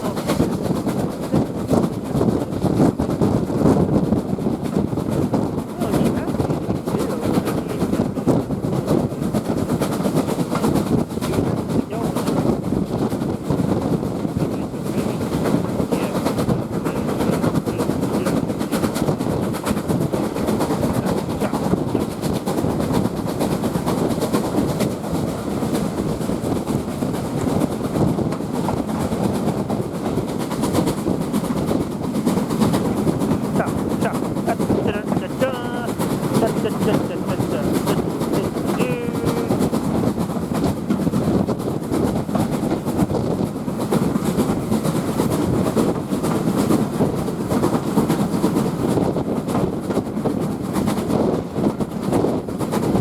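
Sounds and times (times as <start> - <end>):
train wheels rumbling on rails: 0.0 - 53.0
wheels clickety-clack: 0.0 - 53.0.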